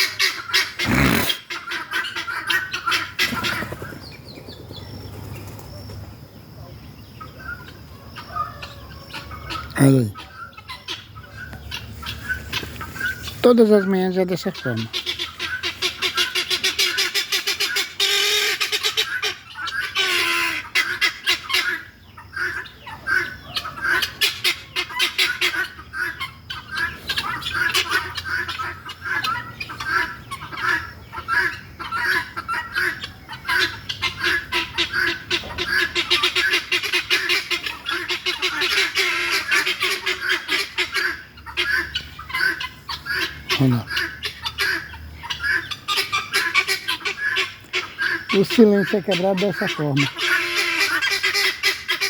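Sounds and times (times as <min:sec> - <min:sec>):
guineafowl calling: 0:00.0 - 0:52.0.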